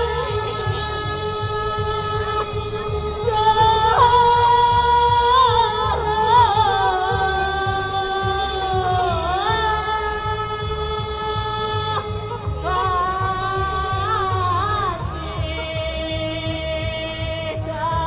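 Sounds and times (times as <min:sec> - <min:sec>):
folk singing with held notes: 0:00.0 - 0:18.0
low rhythmic beat: 0:00.0 - 0:18.0
steady drone: 0:00.0 - 0:18.0.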